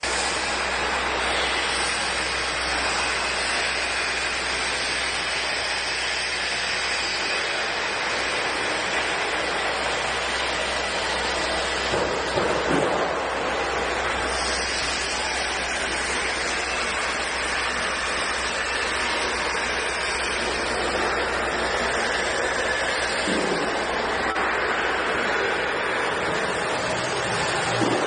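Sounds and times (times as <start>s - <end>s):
cnc router engraving wood: 0.0s - 28.0s.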